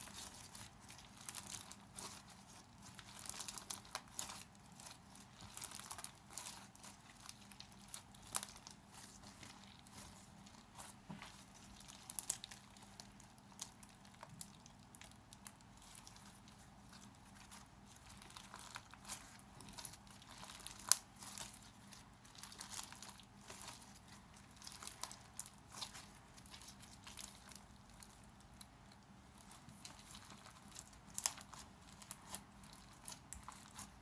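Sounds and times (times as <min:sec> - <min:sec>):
slime crackling and crunching: 0:00.0 - 0:34.0.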